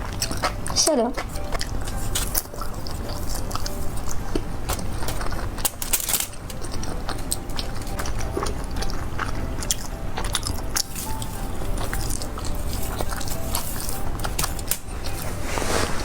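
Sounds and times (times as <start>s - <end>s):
chewing and crunching food: 0.0s - 15.4s.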